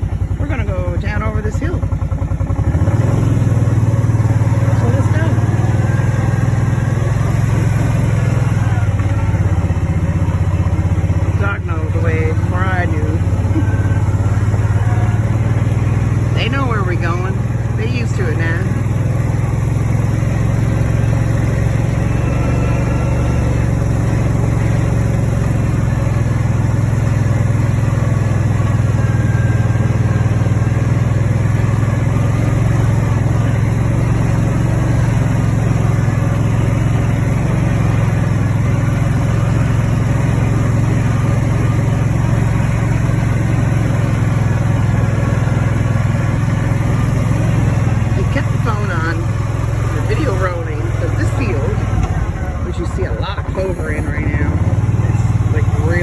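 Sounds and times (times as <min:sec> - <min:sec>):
farm vehicle engine running: 0:00.0 - 0:56.0
road and rattle noise: 0:00.0 - 0:56.0.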